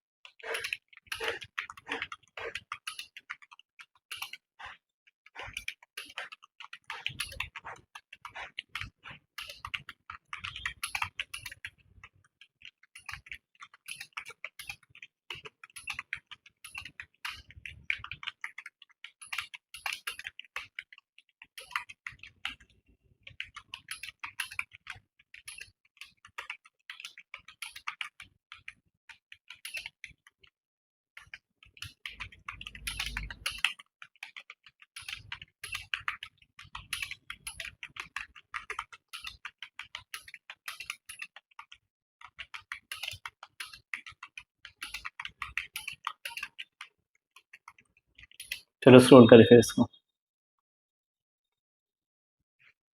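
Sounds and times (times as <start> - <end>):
fast typing on keyboard: 0.2 - 30.5, 31.2 - 49.0.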